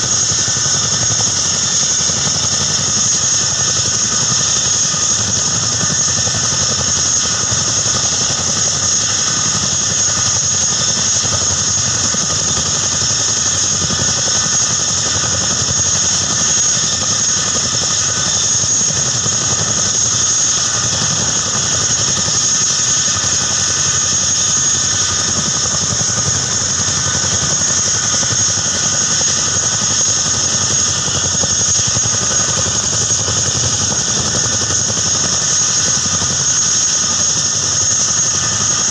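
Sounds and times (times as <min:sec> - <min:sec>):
helicopter rotor thrum: 0:00.0 - 0:38.9
helicopter turbine whine: 0:00.0 - 0:38.9.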